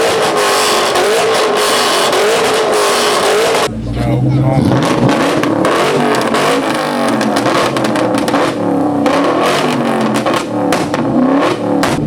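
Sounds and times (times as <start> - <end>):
car engine revving hard: 0.0 - 12.0
sharp exhaust cracks: 0.0 - 12.0.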